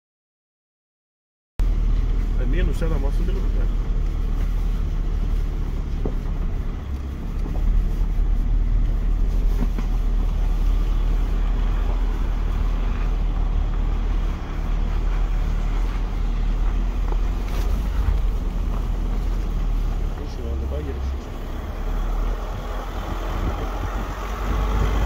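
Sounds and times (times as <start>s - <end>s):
truck engine and tyres droning: 1.6s - 25.0s.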